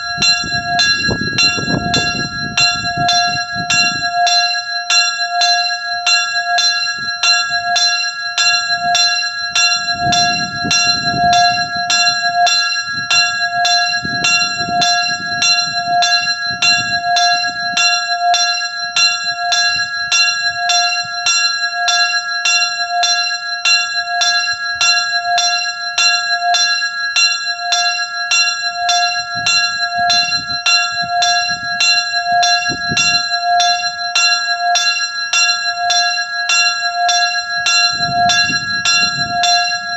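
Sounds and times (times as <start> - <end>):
small church bell ringing: 0.0 - 39.9.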